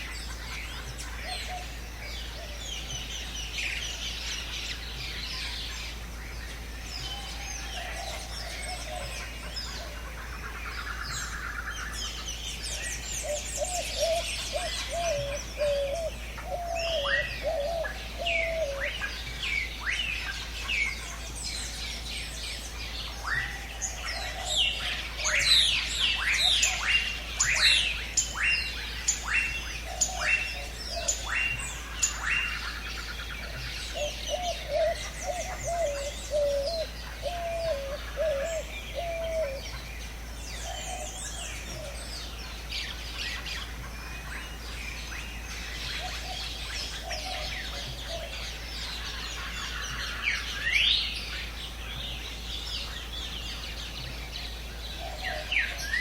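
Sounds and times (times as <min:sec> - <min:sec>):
jungle birds calling: 0:00.0 - 0:56.0.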